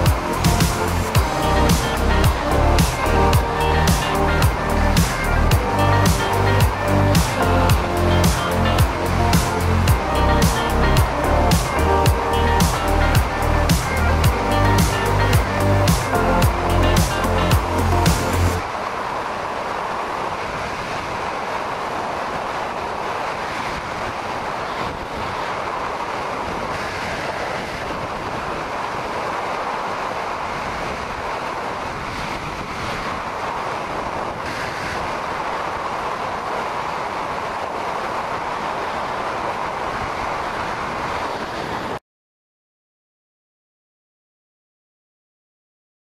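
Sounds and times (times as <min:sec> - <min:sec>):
motorcycle road noise: 0:00.0 - 0:42.0
wind rush: 0:00.0 - 0:42.0.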